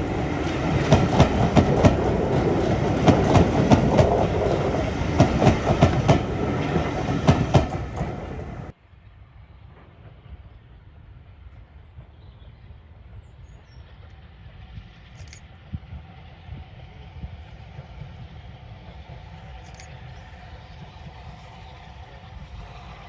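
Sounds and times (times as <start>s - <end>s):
distant train rumbling: 0.0s - 23.0s.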